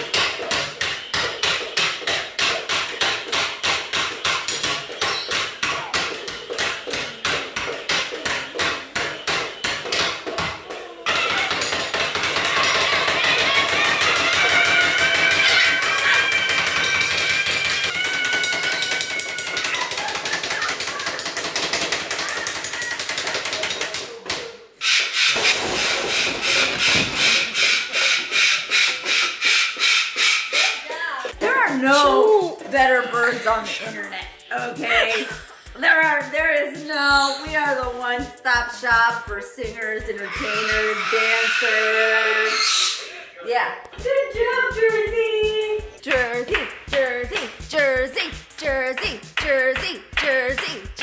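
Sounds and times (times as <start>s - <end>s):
rhythmic scratchy rubbing strokes: 0.0s - 23.6s, 24.8s - 43.1s, 44.0s - 51.0s.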